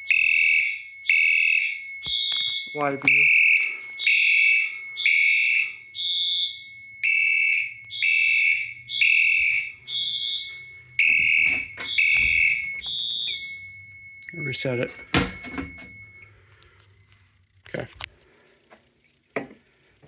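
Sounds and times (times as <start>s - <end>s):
fire alarm horn blasts: 0.0s - 16.6s.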